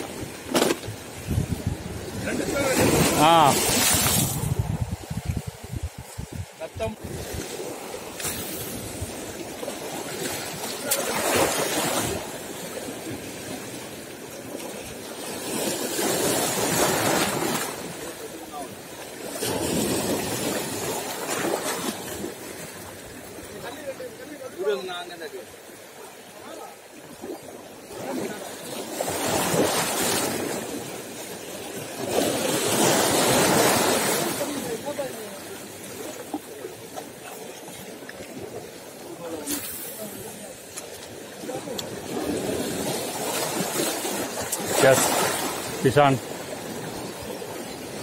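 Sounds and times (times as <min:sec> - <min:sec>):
sea waves washing over rocks: 0:00.0 - 0:48.0.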